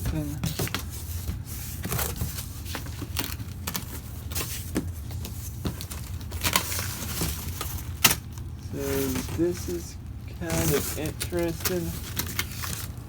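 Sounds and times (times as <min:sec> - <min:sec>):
cardboard box being handled: 0:00.0 - 0:08.1, 0:08.7 - 0:13.0
low steady hum: 0:00.0 - 0:13.0.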